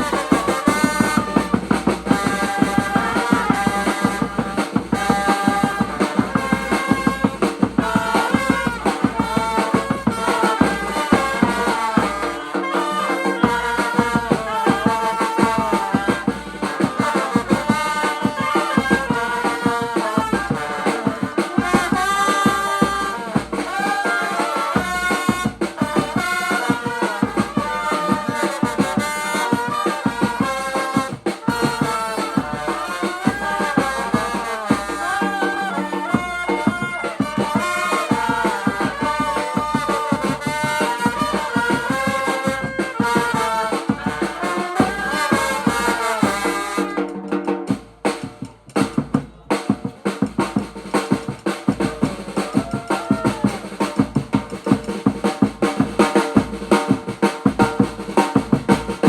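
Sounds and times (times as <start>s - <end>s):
brass horns playing a melody: 0.0s - 47.4s
steady drum beat: 0.0s - 59.0s.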